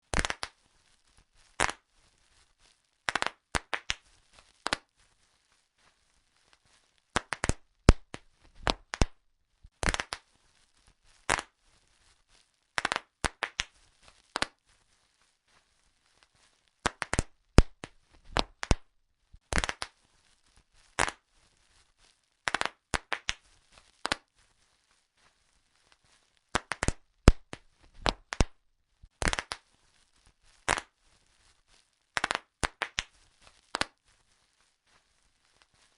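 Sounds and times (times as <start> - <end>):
bubble wrap popping: 0.0 - 35.9.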